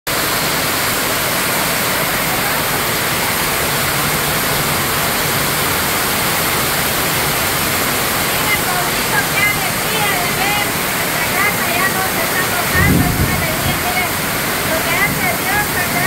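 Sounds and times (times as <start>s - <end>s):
heavy rain on a metal roof: 0.1s - 16.0s.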